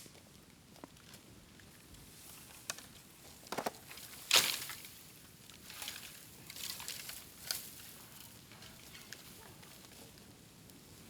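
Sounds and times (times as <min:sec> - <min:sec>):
bamboo crackling in a bonfire: 0:00.0 - 0:11.0.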